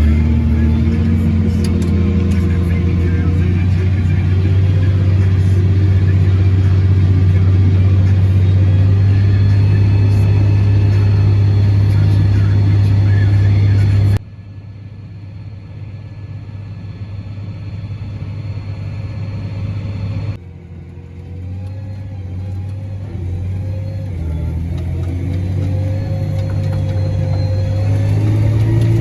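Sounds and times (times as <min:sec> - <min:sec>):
diesel engine droning: 0:00.0 - 0:29.0
whine rising in pitch: 0:00.0 - 0:29.0.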